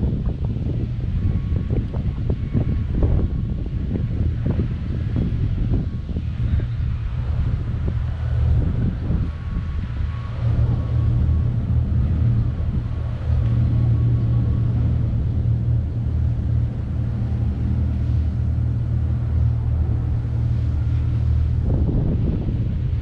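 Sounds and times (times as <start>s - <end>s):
low rumble and hum: 0.0s - 23.0s
wind buffeting microphone: 0.0s - 23.0s.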